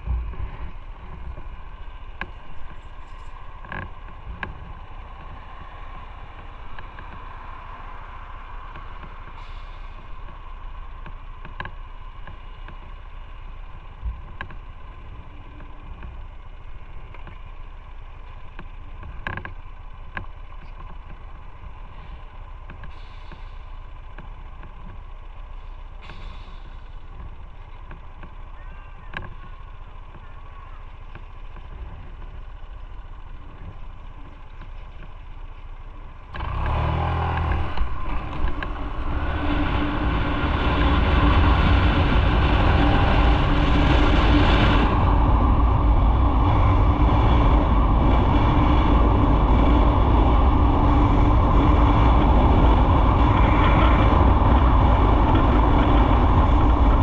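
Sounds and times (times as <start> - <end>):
low wind rumble: 0.0 - 57.0
motorcycle engine: 0.0 - 57.0.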